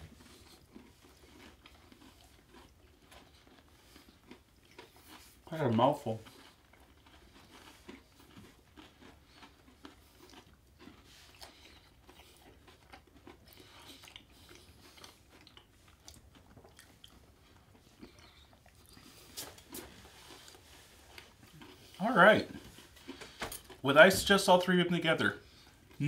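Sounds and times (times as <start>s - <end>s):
chewing crunchy chocolate bar: 0.0s - 24.7s, 25.4s - 26.0s.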